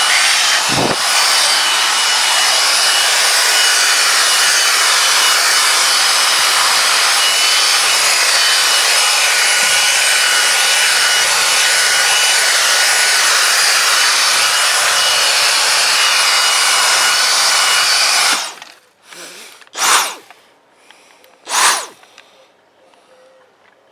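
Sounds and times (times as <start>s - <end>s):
handheld vacuum running: 0.0s - 20.3s, 21.5s - 22.0s.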